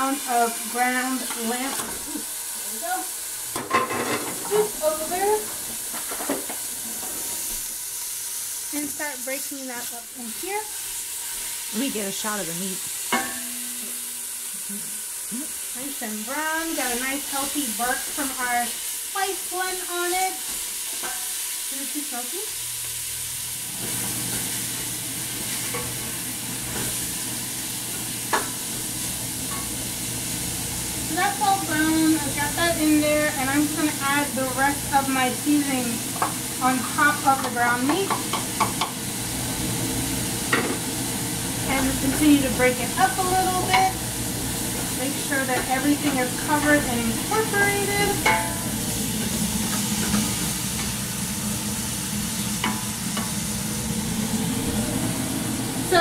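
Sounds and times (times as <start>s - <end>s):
meat sizzling in a pot: 0.0s - 56.0s.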